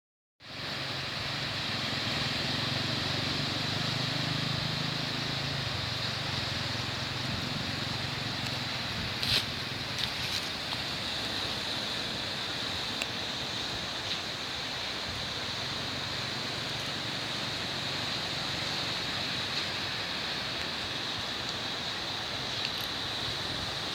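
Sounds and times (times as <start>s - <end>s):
sea rushing: 0.4s - 23.9s
wind: 0.4s - 23.9s.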